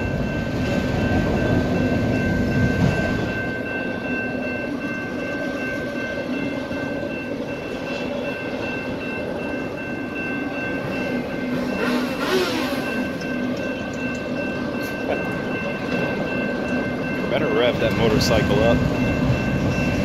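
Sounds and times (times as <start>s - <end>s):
crossing bell ringing: 0.0s - 20.0s
train wheels rumbling on rail: 0.0s - 20.0s.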